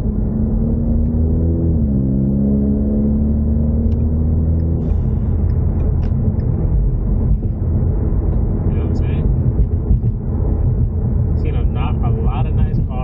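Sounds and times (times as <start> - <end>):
car engine droning: 0.0 - 13.0
road and tyre rumble: 0.0 - 13.0.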